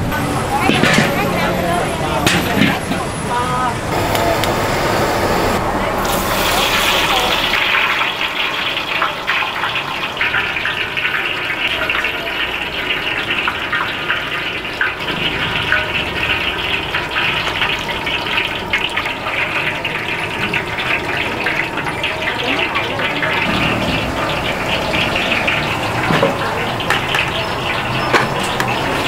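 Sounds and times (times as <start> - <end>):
oil sizzling with crackles and pops: 5.3 - 29.0.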